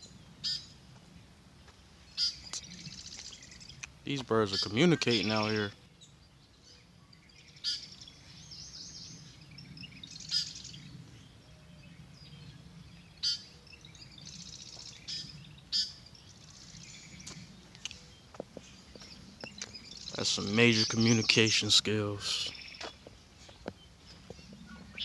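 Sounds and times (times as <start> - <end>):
birds sharp high calls: 0.0 - 0.8, 1.6 - 25.0
faint bird chirping: 0.0 - 25.0.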